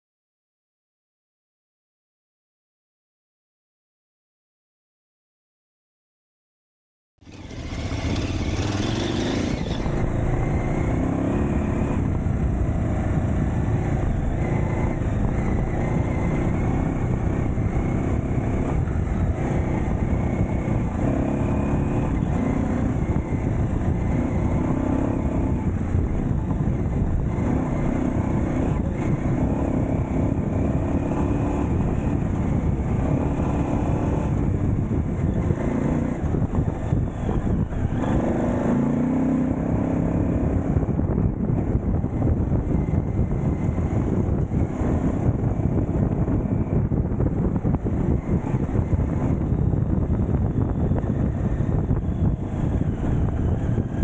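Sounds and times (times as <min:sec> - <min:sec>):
motorcycle engine running: 0:07.2 - 0:54.0
road rumble: 0:07.2 - 0:54.0
wind noise: 0:07.3 - 0:54.0.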